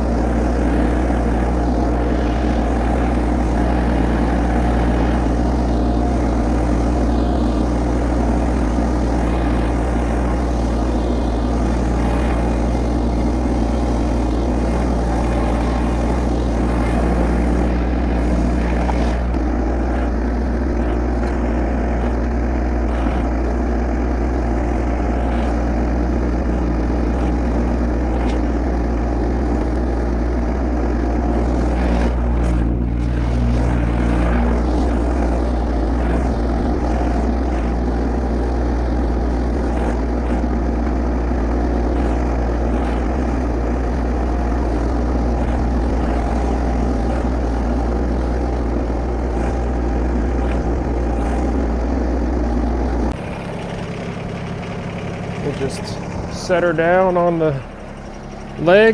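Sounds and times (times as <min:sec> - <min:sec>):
tractor engine droning: 0:00.0 - 0:58.9.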